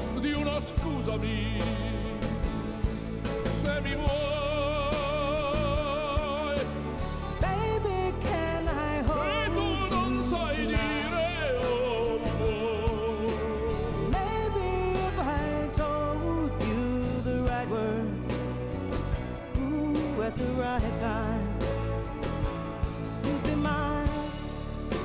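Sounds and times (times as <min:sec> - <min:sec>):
low musical accompaniment: 0:00.0 - 0:25.0.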